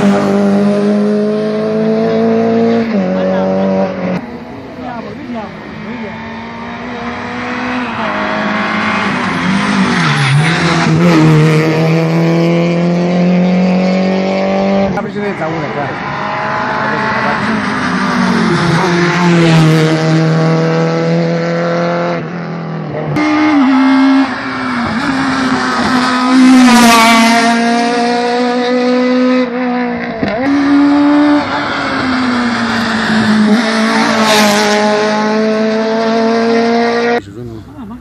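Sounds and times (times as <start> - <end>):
rally cars passing at full throttle: 0.0 - 38.0.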